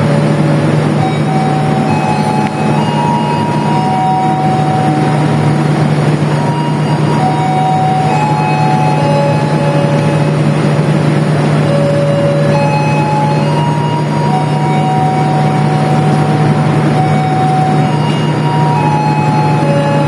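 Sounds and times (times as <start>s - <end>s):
diesel train engine drone: 0.0s - 20.0s
high wheel squeals: 0.0s - 20.0s
train running noise: 0.0s - 20.0s.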